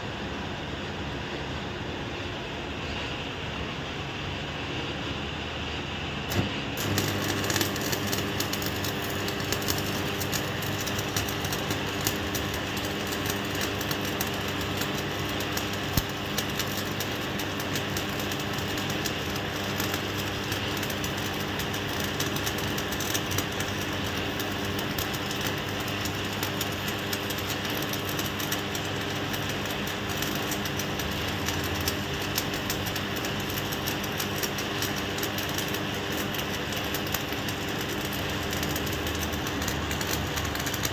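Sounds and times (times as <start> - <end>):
steady low hum: 0.0 - 40.9
welding arc crackling: 6.3 - 40.9.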